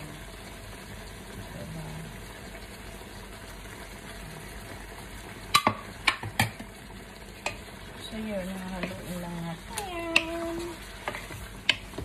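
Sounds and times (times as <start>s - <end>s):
low sizzle in a wok: 0.0s - 12.0s.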